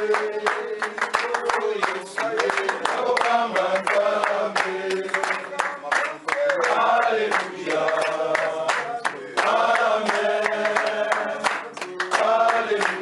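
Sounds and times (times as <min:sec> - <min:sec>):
hand clapping: 0:00.0 - 0:13.0
men chanting together: 0:00.0 - 0:13.0.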